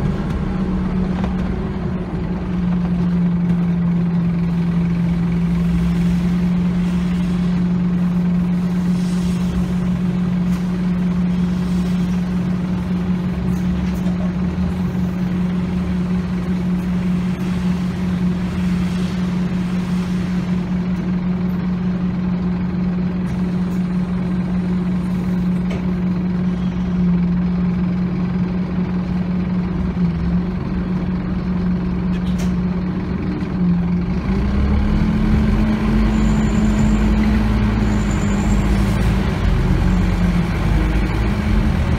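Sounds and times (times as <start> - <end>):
bus diesel engine drone: 0.0 - 41.9
road noise: 0.0 - 41.9.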